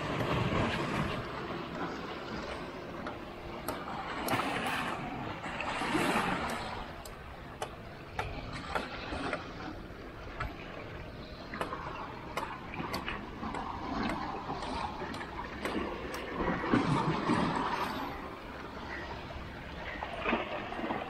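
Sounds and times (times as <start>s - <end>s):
water lapping against rocks: 0.0s - 21.0s.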